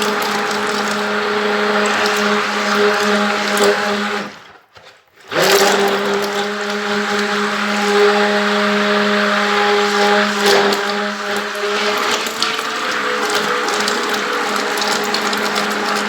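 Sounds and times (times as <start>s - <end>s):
electric mixer running: 0.0s - 4.6s, 5.2s - 16.0s.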